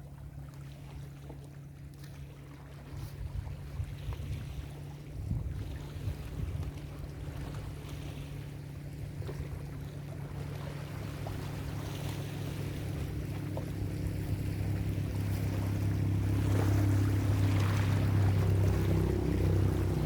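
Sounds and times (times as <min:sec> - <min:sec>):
ocean waves washing on shore: 0:00.0 - 0:20.0
steady low hum: 0:00.0 - 0:20.0.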